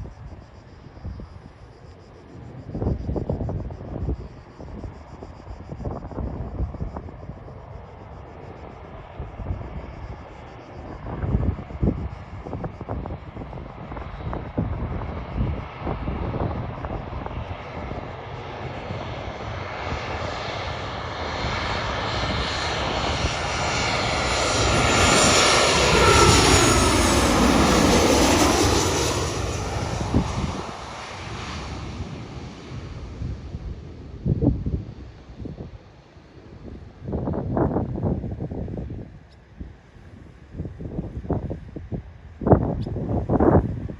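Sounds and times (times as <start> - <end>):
wind buffeting microphone: 0.0 - 7.8, 8.4 - 35.8, 36.4 - 43.9
airliner jet engines passing: 0.0 - 43.9.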